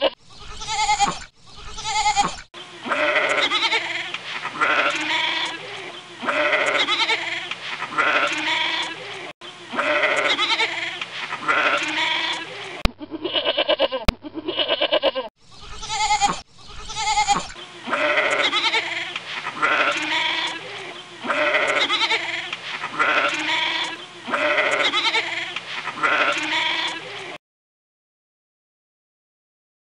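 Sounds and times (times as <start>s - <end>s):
goat bleating: 0.0s - 27.4s.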